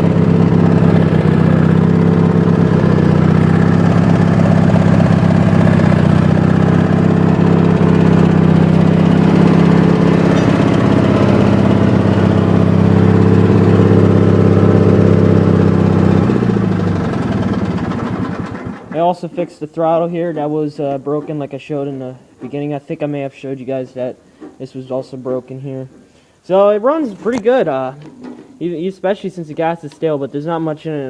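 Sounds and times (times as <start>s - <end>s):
tractor engine running: 0.0s - 23.8s, 26.8s - 28.8s.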